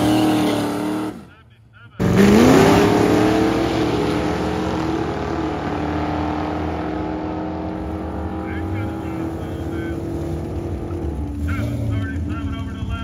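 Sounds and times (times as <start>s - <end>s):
drag cars launching: 0.0s - 1.3s, 2.0s - 13.0s.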